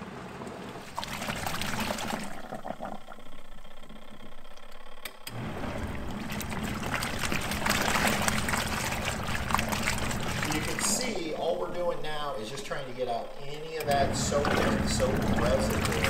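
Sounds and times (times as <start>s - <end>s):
water sloshing in washing machine: 0.0s - 4.1s, 5.3s - 16.0s.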